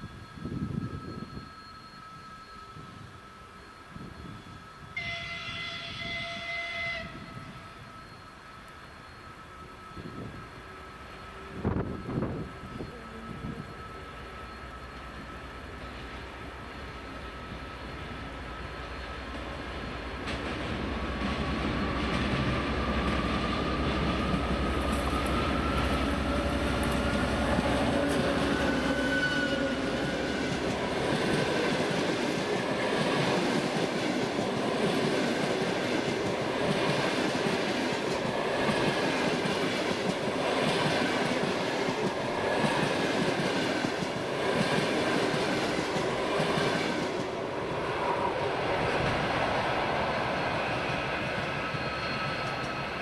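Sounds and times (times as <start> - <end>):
diesel locomotive engine rumble: 0.0 - 53.0
train coaches rolling: 0.0 - 53.0.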